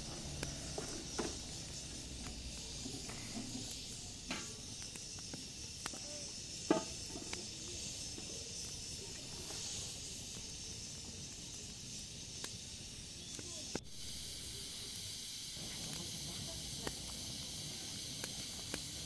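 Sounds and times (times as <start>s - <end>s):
steaming cooking pot hissing: 0.0s - 19.0s.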